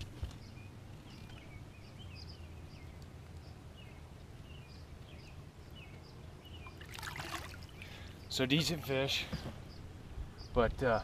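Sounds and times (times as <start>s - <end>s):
faint low outdoor rumble: 0.0s - 11.0s
small birds chirping: 0.0s - 11.0s.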